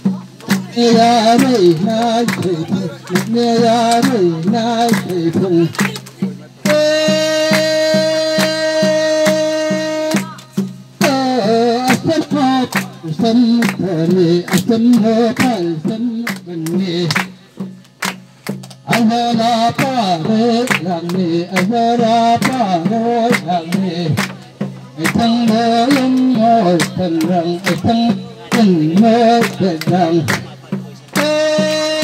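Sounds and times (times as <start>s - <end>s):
person singing: 0.0s - 17.2s, 18.9s - 32.0s
steady drum beat: 0.0s - 32.0s.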